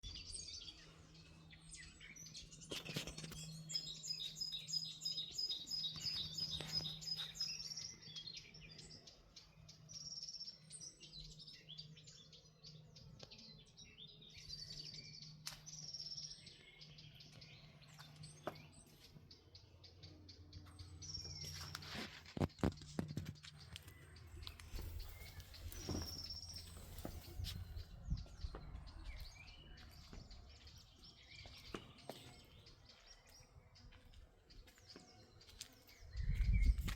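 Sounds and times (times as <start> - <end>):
songbirds chirping and singing: 0.0 - 36.9.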